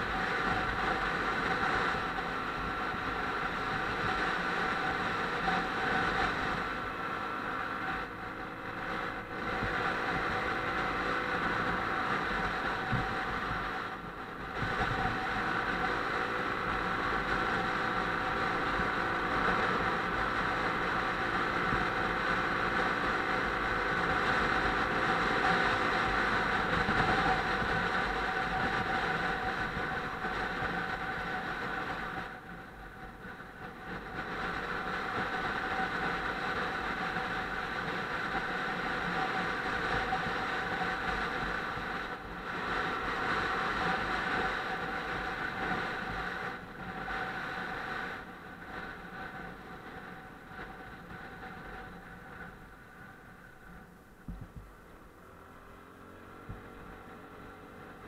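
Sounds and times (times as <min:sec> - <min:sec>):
motorcycle engine running: 0:00.0 - 0:58.0
road noise: 0:00.0 - 0:58.0
wind: 0:00.0 - 0:58.0.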